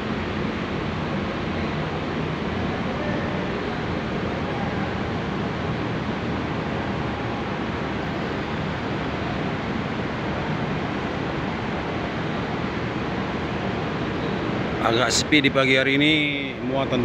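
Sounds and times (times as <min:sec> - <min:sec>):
machinery and ventilation drone: 0:00.0 - 0:17.0.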